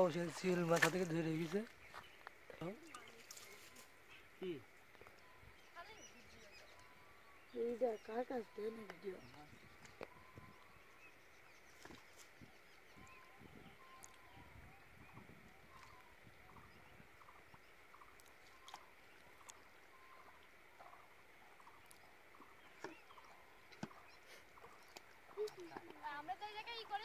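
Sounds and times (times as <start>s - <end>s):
faint chirps: 1.8s - 27.0s.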